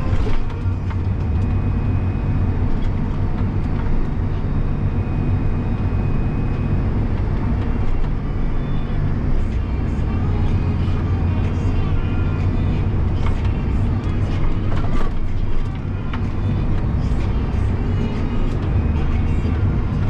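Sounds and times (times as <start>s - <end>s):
tractor diesel engine drone: 0.0s - 20.0s.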